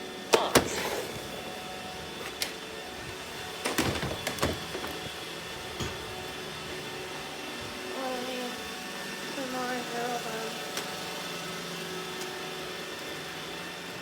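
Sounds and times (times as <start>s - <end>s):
robot vacuum motor hum: 0.0s - 14.0s.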